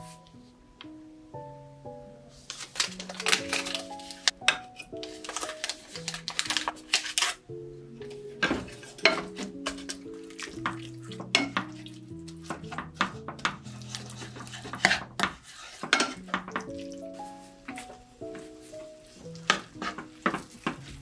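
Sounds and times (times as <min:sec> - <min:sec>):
soft background music: 0:00.0 - 0:21.0
spatula scraping a frying pan: 0:02.5 - 0:07.4, 0:08.4 - 0:21.0.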